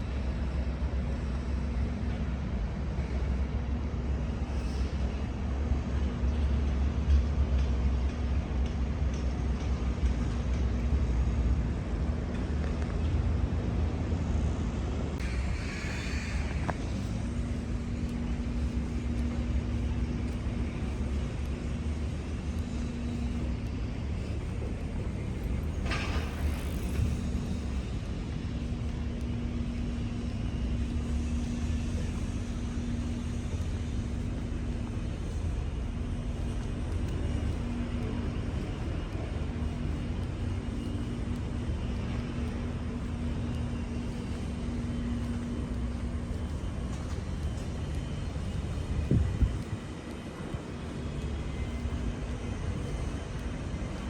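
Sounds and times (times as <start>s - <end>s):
ferry engine low rumble: 0.0s - 54.0s
steady hum: 0.0s - 54.0s.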